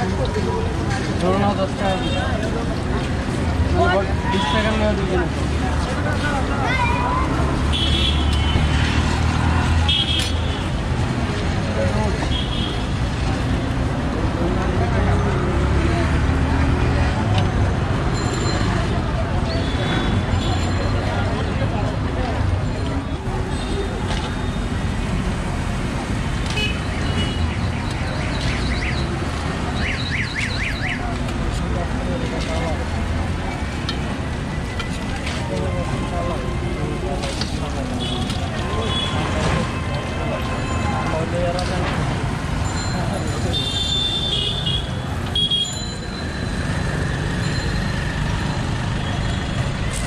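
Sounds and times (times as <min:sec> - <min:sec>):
busy road traffic: 0:00.0 - 0:50.0.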